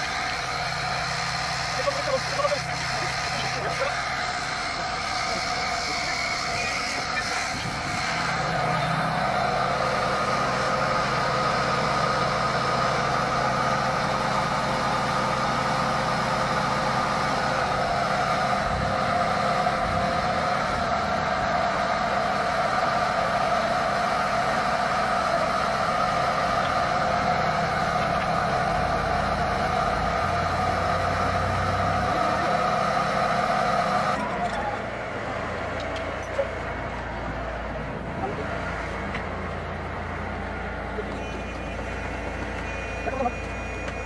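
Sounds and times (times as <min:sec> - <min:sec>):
engine idling: 0:00.0 - 0:44.0
steady whine: 0:00.0 - 0:44.0.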